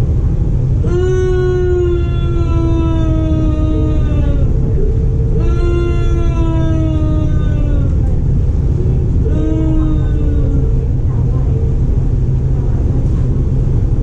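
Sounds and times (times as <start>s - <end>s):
electric whine: 0.0s - 12.5s
train wheels rumbling on track: 1.5s - 14.0s.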